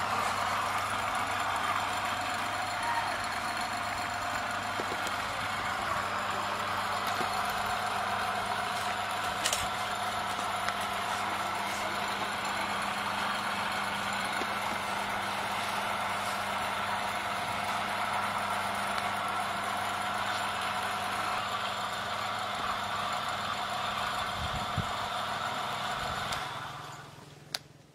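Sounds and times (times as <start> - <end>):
electric motor hum and whine: 0.0 - 27.5.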